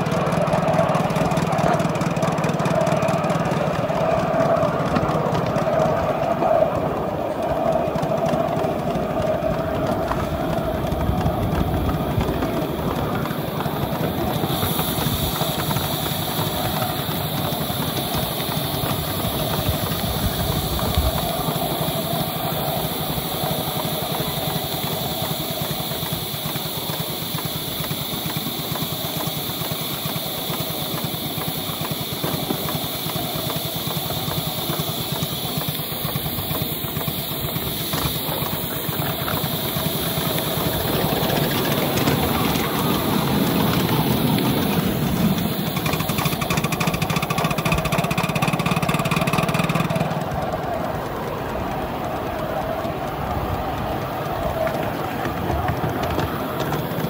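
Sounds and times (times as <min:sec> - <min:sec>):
steam locomotive exhaust beat: 0:00.0 - 0:57.0
wheels running on rails: 0:00.0 - 0:57.0.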